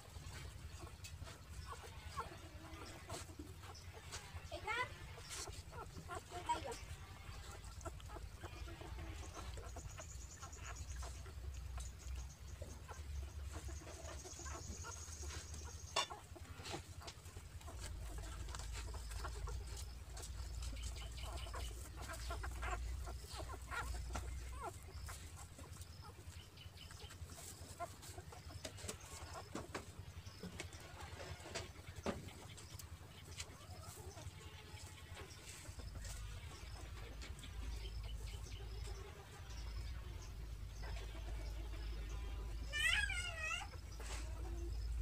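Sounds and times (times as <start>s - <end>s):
faint animal calls: 0.0s - 45.0s.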